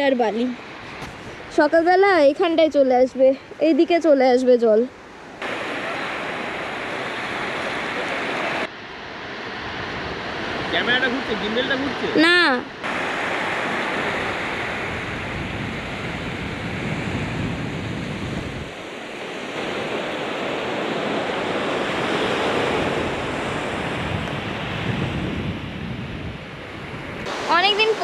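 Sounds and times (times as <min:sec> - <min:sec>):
wind on microphone: 0:00.0 - 0:03.8, 0:04.9 - 0:28.0
waves washing onto beach: 0:00.0 - 0:28.0.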